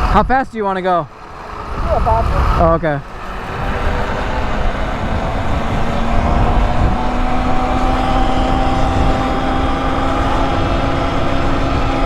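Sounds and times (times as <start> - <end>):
wind rumbling over microphone: 0.0 - 12.0
motor whine: 1.1 - 12.0.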